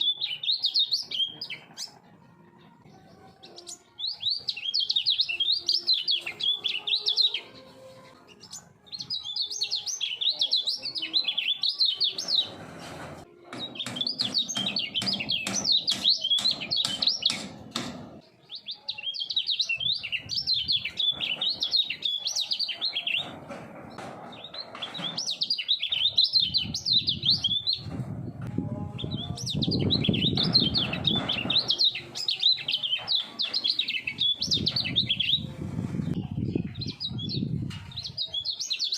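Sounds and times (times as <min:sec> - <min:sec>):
songbird chattering song: 0:00.0 - 0:02.0, 0:03.4 - 0:12.6, 0:13.6 - 0:38.9.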